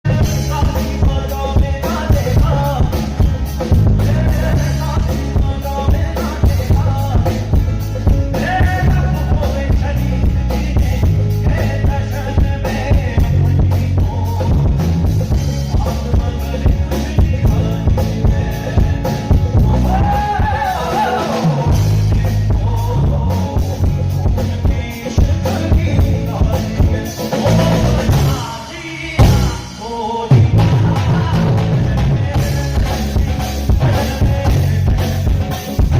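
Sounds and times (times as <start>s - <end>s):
drum kit: 0.0s - 35.9s
keyboard: 0.0s - 35.9s
man singing: 0.0s - 35.9s.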